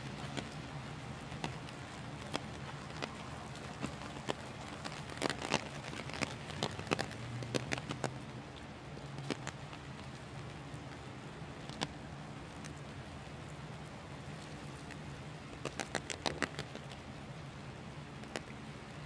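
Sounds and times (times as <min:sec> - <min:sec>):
heavy rain on pavement and trees: 0:00.0 - 0:19.0
low steady hum: 0:00.0 - 0:19.0.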